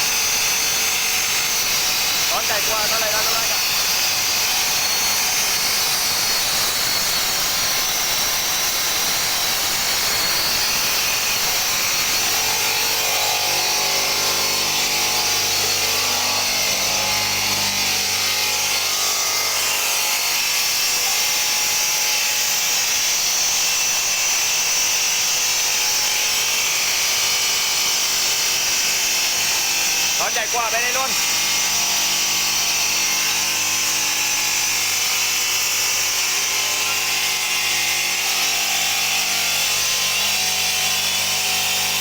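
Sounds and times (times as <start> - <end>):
steady motor hum: 0.0 - 42.0.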